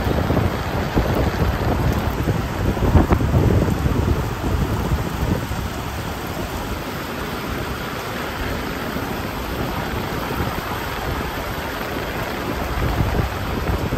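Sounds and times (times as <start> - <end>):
steady rain falling: 0.0 - 13.9.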